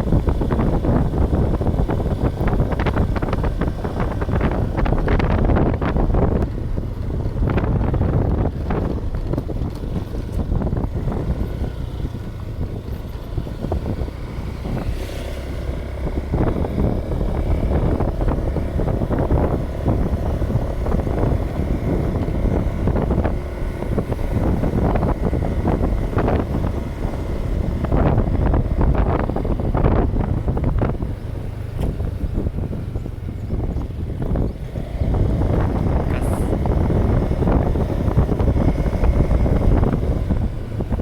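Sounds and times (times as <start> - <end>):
low rumble: 0.0 - 41.0
wind buffeting microphone: 0.0 - 41.0.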